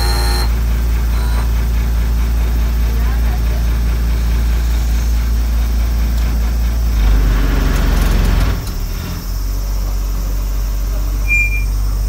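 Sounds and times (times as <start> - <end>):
train diesel engine humming: 0.0 - 12.0.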